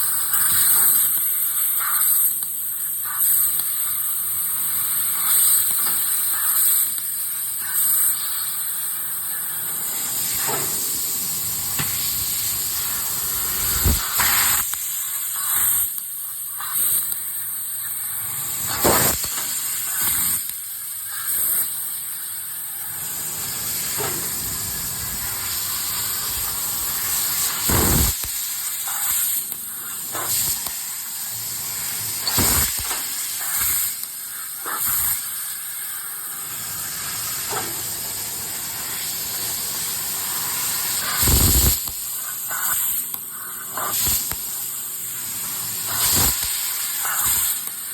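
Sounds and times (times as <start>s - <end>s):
laser cutter hissing: 0.0s - 47.9s.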